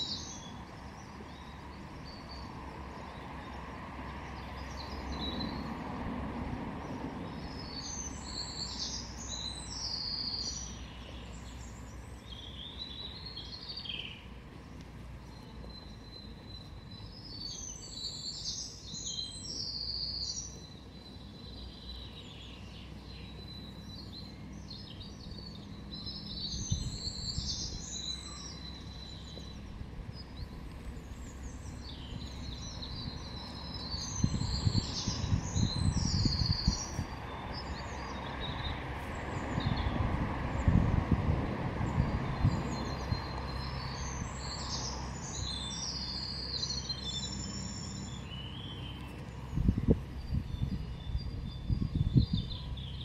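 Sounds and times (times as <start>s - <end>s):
low outdoor rumble: 0.0s - 53.0s
songbirds chirping: 0.0s - 53.0s.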